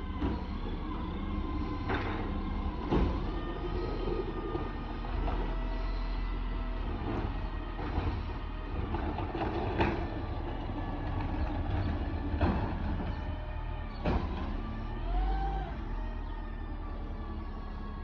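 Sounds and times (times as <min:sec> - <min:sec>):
garbage truck engine and hydraulics: 0:00.0 - 0:18.0.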